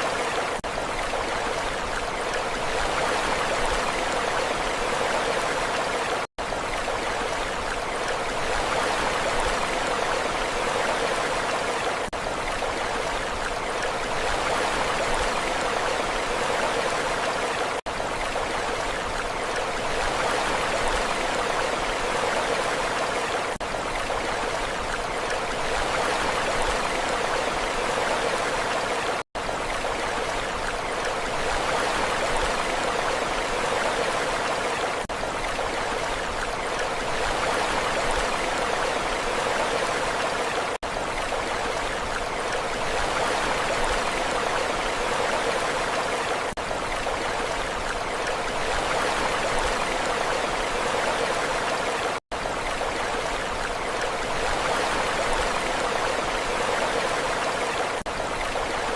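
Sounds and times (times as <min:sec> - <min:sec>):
rushing water: 0:00.0 - 0:58.9.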